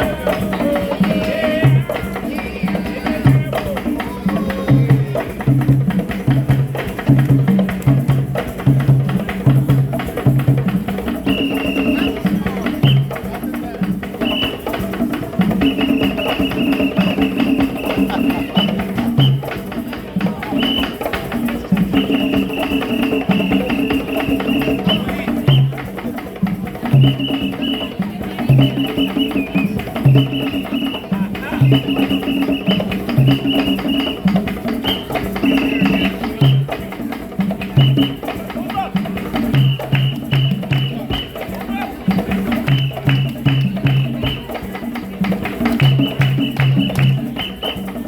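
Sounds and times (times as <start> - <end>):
fast sharp drum strikes: 0.0 - 48.0.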